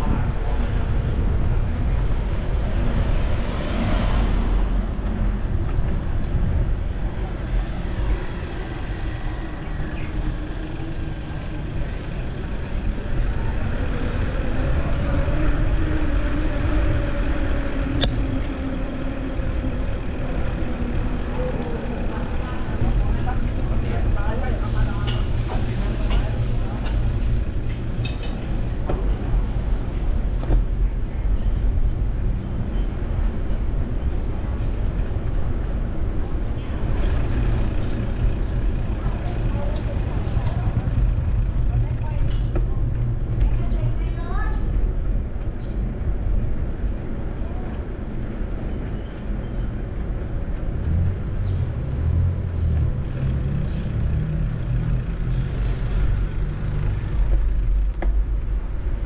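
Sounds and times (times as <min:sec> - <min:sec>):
bicycle tyres rolling on street: 0:00.0 - 0:59.0.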